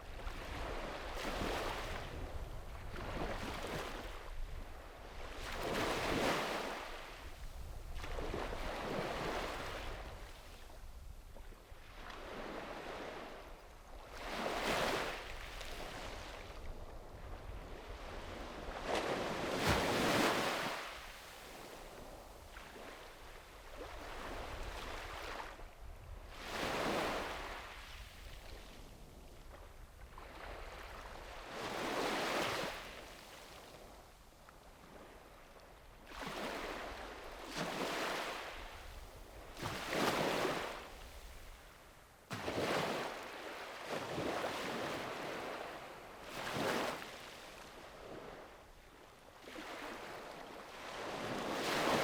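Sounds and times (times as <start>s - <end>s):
small sea waves breaking: 0.2s - 4.3s, 5.2s - 7.3s, 7.9s - 10.3s, 14.0s - 25.6s, 26.4s - 28.6s, 29.5s - 33.5s, 36.0s - 41.6s, 42.3s - 52.0s.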